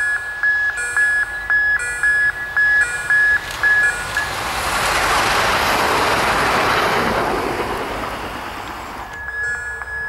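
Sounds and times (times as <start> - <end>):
level crossing warning bell beeping: 0.0 - 10.0
railcar passing at speed: 0.0 - 10.0.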